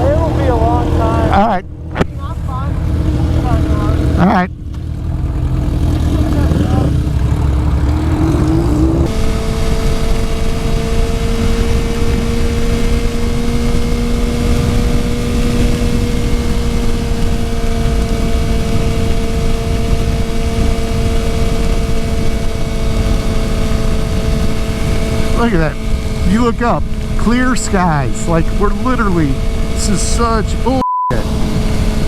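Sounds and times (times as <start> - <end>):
motorcycle engine revving: 0.0 - 32.0
heavy wind noise: 5.8 - 32.0.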